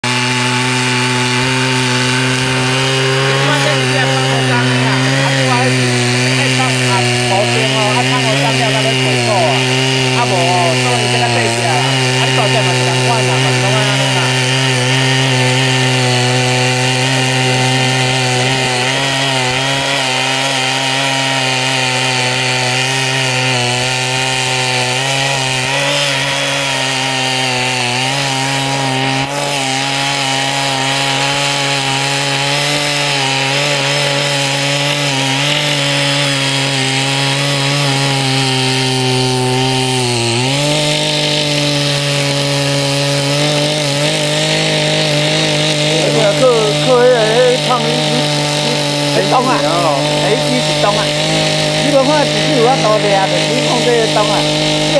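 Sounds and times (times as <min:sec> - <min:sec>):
tiller petrol engine running: 0:00.0 - 0:54.9.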